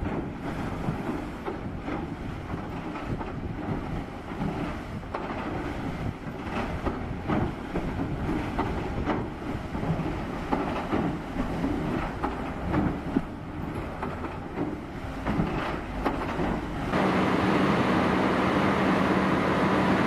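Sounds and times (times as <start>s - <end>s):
knocks and clanks: 0.0s - 16.9s
heavy machinery running: 0.0s - 20.0s.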